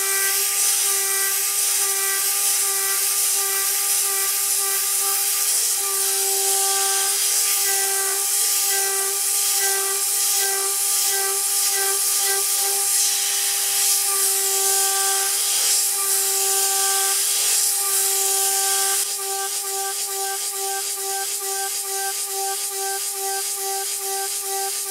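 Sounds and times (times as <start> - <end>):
router spindle milling metal whine: 0.0 - 24.9.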